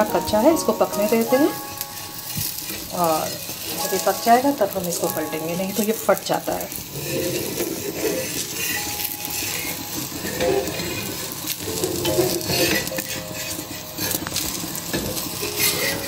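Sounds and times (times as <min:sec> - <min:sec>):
batter sizzling in oil: 0:00.0 - 0:16.0
metal spatula scraping a pan: 0:00.0 - 0:16.0.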